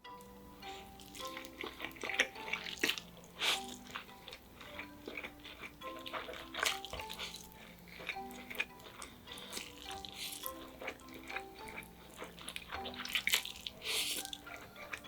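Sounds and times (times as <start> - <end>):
soft background music with mallet notes: 0.0 - 15.0
wet chewing and smacking: 0.7 - 15.0.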